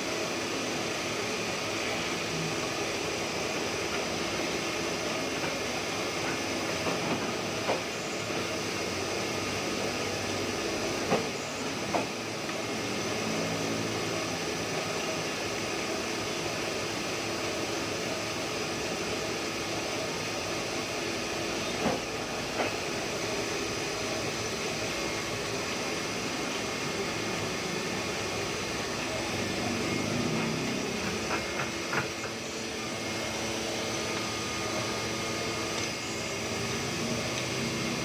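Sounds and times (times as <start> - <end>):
printing press running: 0.0 - 38.0.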